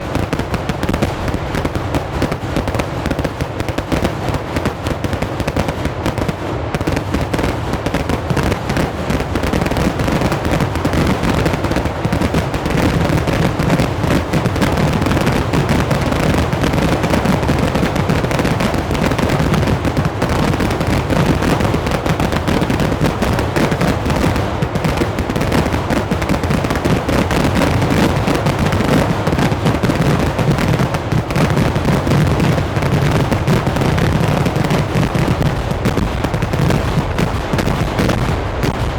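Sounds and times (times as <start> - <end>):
firecracker bangs: 0.0 - 38.9.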